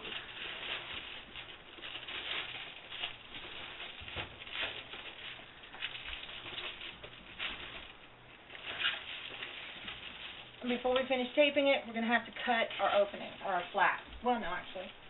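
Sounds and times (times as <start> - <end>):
foil insulation crinkling: 0.0 - 15.0.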